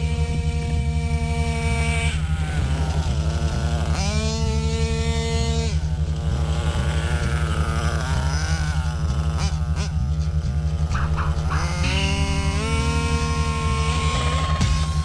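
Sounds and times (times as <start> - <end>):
background music with bass beat: 0.0 - 15.0.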